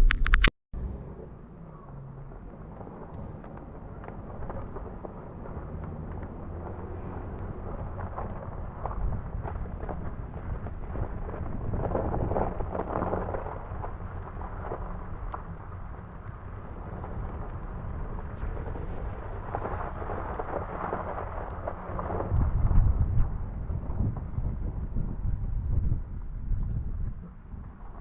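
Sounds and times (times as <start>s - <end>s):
vehicle rumbling through snow: 0.0s - 28.0s
knocks and crunching: 2.4s - 25.0s.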